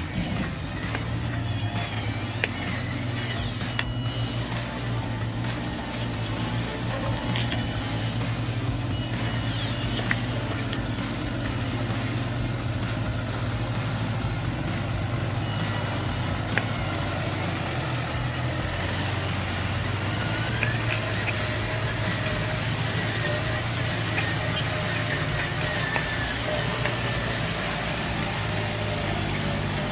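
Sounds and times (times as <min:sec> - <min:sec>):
model truck motor humming: 0:00.0 - 0:29.9.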